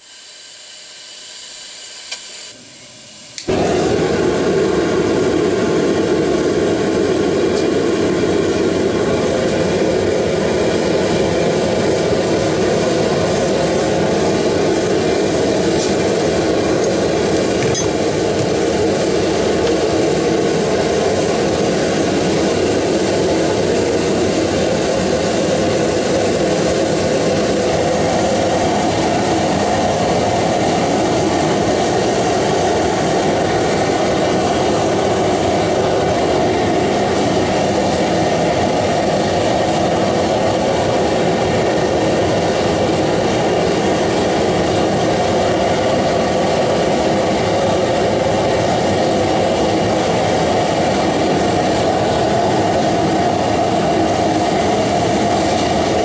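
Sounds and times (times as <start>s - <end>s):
gas forge burners rushing: 0.0s - 56.0s.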